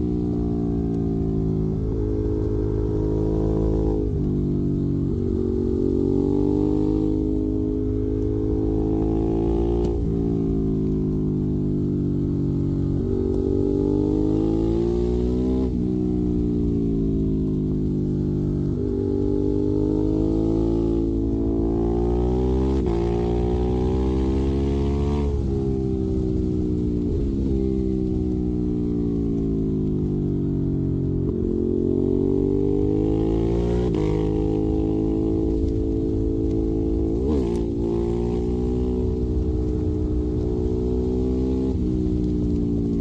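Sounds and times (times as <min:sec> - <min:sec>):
motorcycle engine revving: 0:00.8 - 0:43.0.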